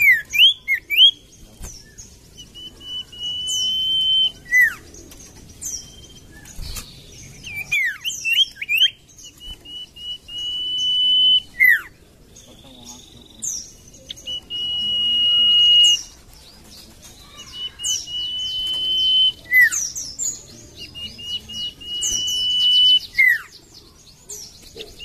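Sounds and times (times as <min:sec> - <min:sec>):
bird whistling and chirping: 0:00.0 - 0:16.2, 0:17.2 - 0:23.6.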